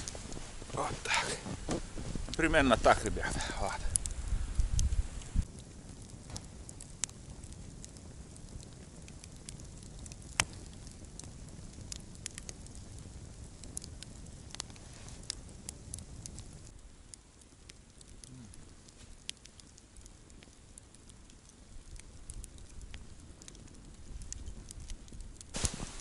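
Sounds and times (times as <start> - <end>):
campfire crackling: 0.0 - 26.0
sharp fire pops: 0.0 - 26.0.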